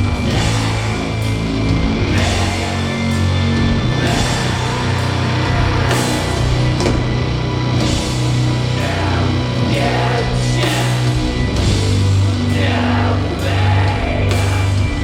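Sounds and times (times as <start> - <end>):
distorted guitar and bass riff: 0.0 - 15.0.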